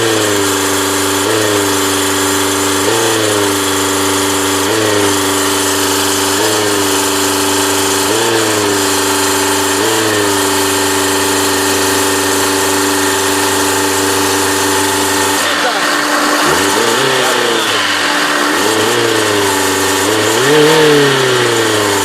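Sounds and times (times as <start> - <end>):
motor running with surging tone: 0.0 - 22.0.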